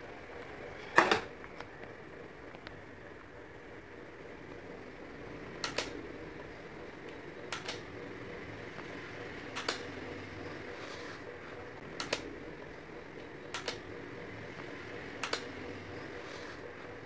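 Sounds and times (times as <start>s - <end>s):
table fan humming: 0.0s - 17.0s.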